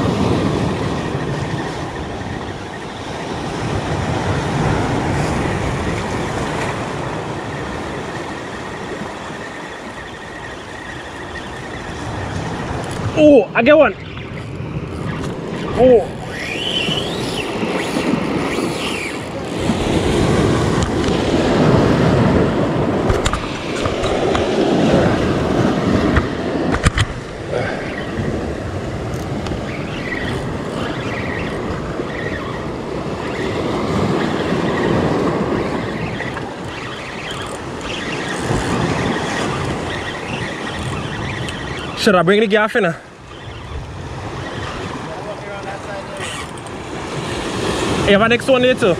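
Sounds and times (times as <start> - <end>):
surf washing against rocks: 0.0 - 48.9
wind rumbling on microphone: 0.0 - 48.9.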